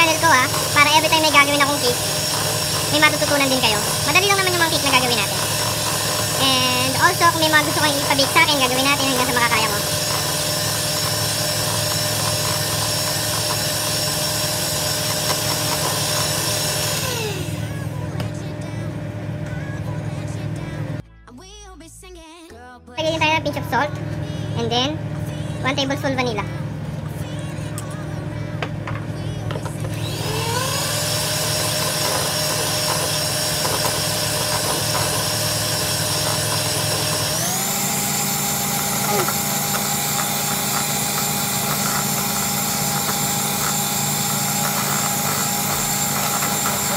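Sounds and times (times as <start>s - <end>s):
electric hand mixer whipping cream: 0.0s - 21.0s, 23.0s - 46.9s.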